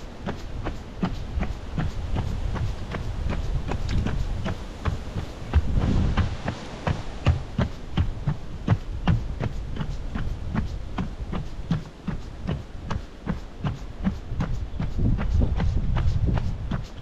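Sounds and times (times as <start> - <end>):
footsteps on a boardwalk: 0.0 - 17.0
low steady rumble: 0.0 - 17.0.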